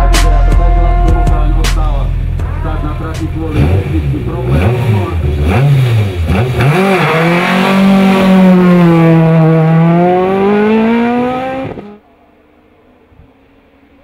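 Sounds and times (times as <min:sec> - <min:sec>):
race car engine revving: 0:00.1 - 0:12.0.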